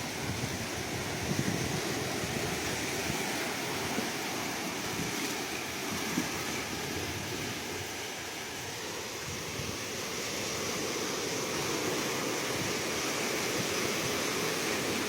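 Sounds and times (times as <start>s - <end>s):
ocean waves washing on shore: 0.0s - 15.0s
wind on microphone: 0.0s - 15.0s.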